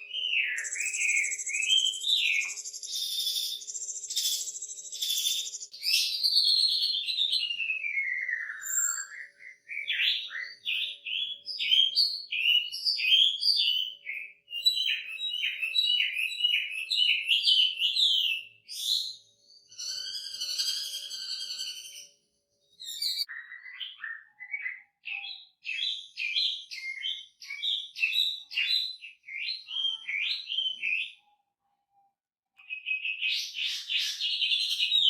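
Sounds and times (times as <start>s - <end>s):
bird singing: 0.0s - 31.5s, 32.6s - 35.0s.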